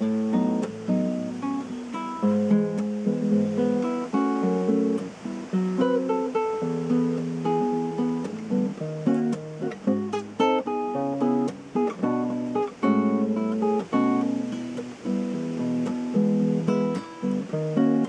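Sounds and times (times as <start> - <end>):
fingerstyle acoustic guitar: 0.0 - 18.0.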